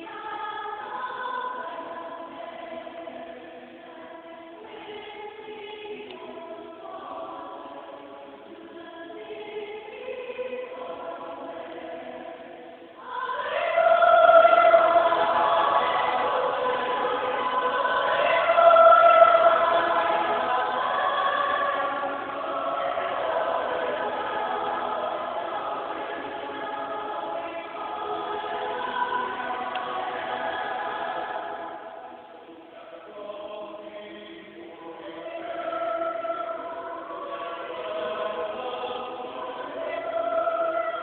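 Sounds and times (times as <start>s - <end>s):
choir singing sustained notes: 0.0s - 41.0s.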